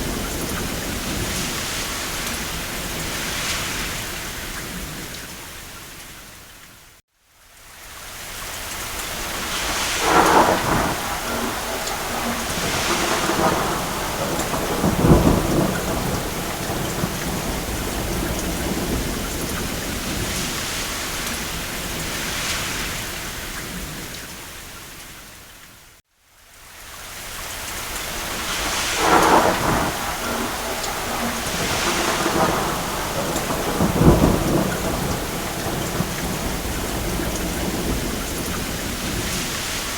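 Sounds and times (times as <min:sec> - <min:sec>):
thunder rumbling: 0:00.0 - 0:05.4, 0:09.0 - 0:24.2, 0:28.0 - 0:39.9
steady rain: 0:00.0 - 0:39.9.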